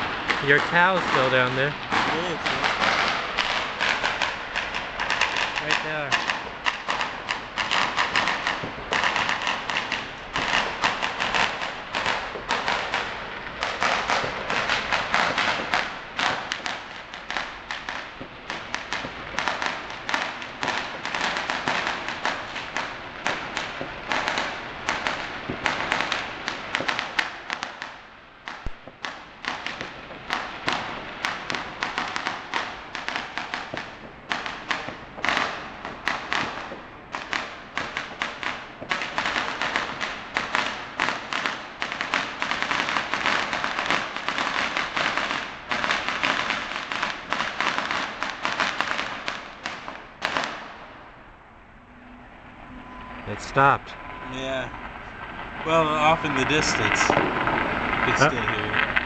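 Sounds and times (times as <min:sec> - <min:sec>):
firecrackers crackling: 0:00.0 - 0:51.5, 0:53.2 - 0:59.0.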